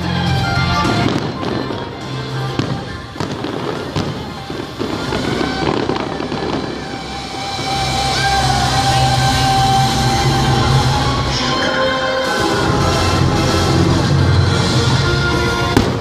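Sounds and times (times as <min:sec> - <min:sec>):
show music: 0:00.0 - 0:16.0
fireworks bangs: 0:00.6 - 0:16.0.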